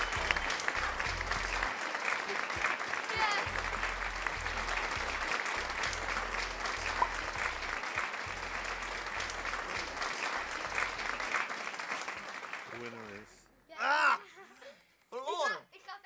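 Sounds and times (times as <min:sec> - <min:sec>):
crowd applause: 0:00.0 - 0:13.4.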